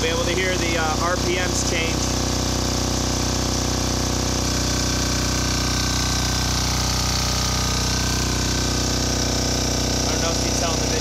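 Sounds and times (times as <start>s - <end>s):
diesel generator engine running: 0.0s - 11.0s.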